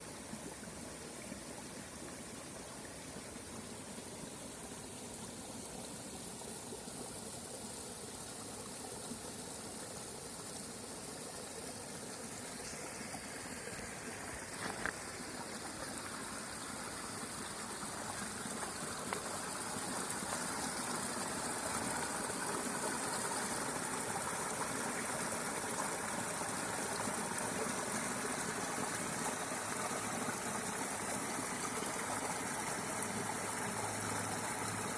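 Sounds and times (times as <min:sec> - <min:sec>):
creek water flowing: 0:00.0 - 0:34.9.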